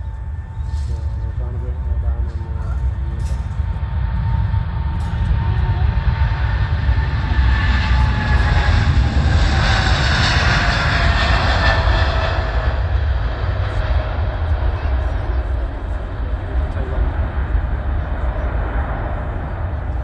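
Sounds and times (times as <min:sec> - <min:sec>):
deep rumble: 0:00.0 - 0:20.0
jet airliner passing: 0:00.0 - 0:20.0
jet engine whine falling in pitch: 0:00.0 - 0:20.0.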